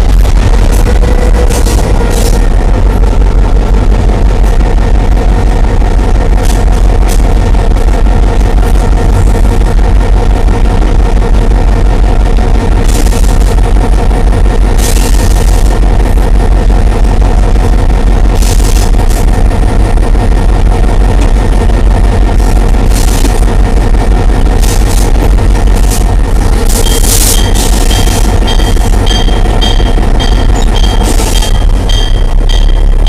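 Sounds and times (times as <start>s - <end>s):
diesel locomotive engine droning: 0.0s - 33.0s.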